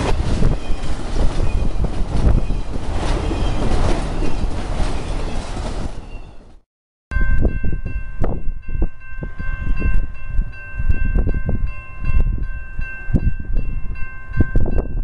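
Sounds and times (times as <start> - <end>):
crossing warning bell ringing: 0.4 - 5.4, 7.1 - 15.0.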